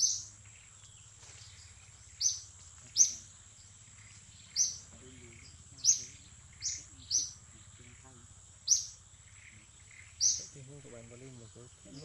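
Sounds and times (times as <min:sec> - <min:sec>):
bird chirping: 0:00.0 - 0:12.0
insect drone: 0:00.0 - 0:12.0.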